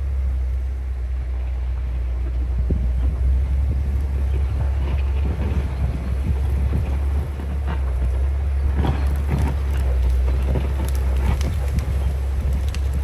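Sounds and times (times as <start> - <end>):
diesel engine droning under load: 0.0 - 13.0.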